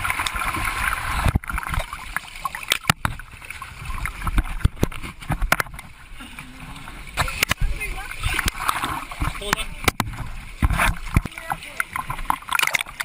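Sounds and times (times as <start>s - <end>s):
ocean water splashing: 0.0s - 13.0s.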